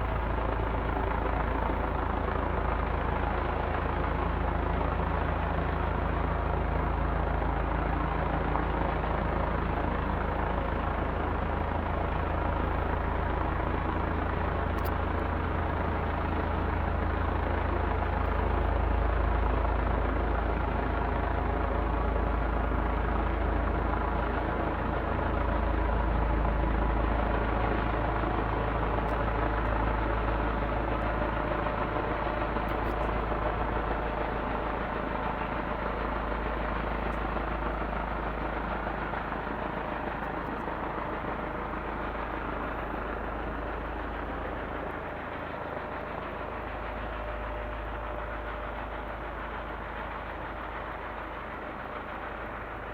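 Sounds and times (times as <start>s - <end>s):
helicopter deep drone: 0.0s - 52.9s.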